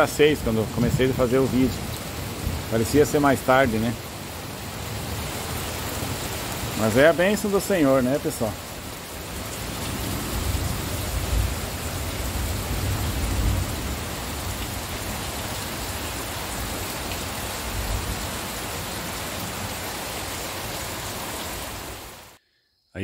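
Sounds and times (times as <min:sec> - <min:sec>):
heavy rain: 0:00.0 - 0:22.4.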